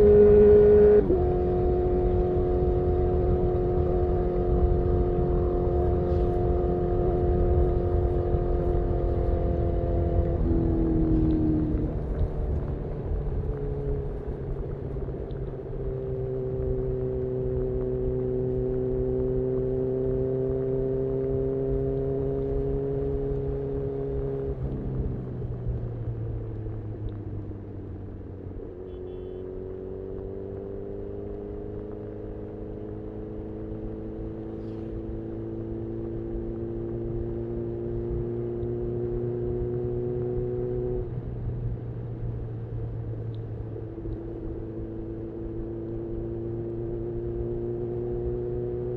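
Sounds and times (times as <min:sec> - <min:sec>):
motorcycle engine revving: 0:00.0 - 0:13.5, 0:15.8 - 0:25.2, 0:28.7 - 0:41.1, 0:43.7 - 0:48.9
road and wind rumble: 0:00.0 - 0:48.9.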